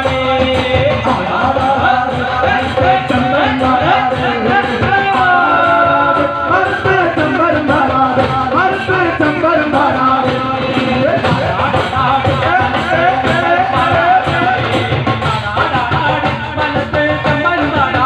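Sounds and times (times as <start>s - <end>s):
fast hand drumming: 0.0s - 18.0s
group singing into microphones: 0.0s - 18.0s.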